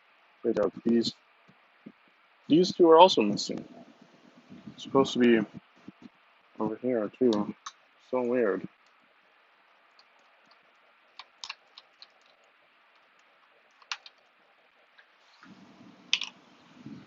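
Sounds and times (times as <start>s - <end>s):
low steady noise: 0.0s - 17.0s.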